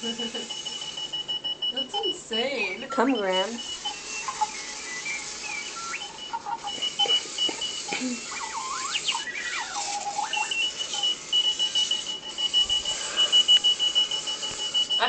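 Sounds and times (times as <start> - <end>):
electronic alarm clock tones: 0.0 - 15.0
rapid high-pitched beeping: 0.0 - 15.0.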